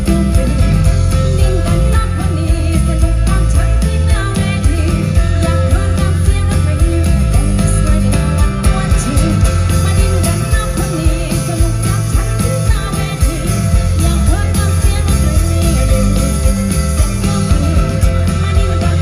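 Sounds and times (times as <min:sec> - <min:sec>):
acoustic guitar: 0:00.0 - 0:19.0
bass guitar: 0:00.0 - 0:19.0
drums: 0:00.0 - 0:19.0
live rock band: 0:00.0 - 0:19.0.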